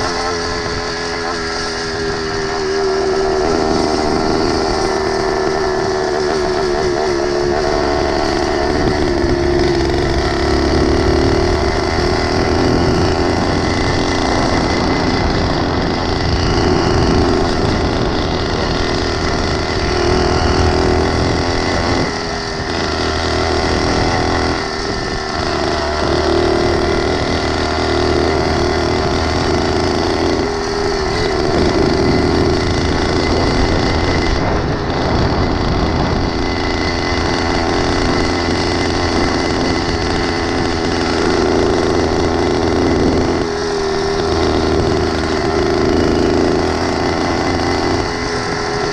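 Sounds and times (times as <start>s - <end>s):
small engine buzzing: 0.0s - 48.9s.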